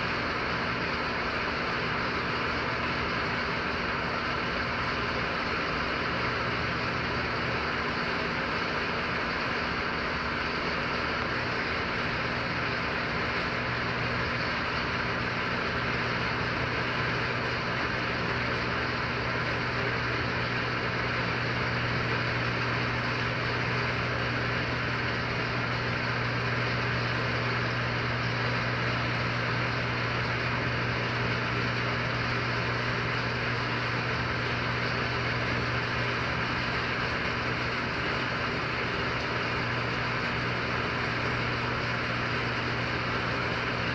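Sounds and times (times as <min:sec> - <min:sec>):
steady mechanical hum: 0:00.0 - 0:43.9.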